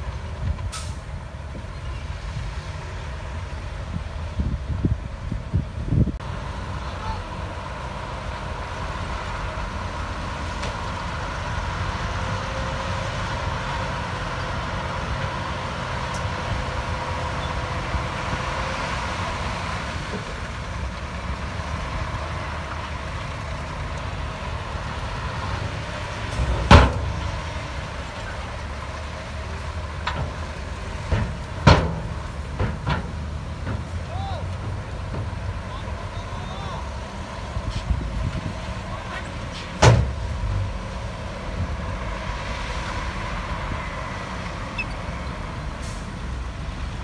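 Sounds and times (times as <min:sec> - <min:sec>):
heavy machinery engine rumble: 0:00.0 - 0:47.0.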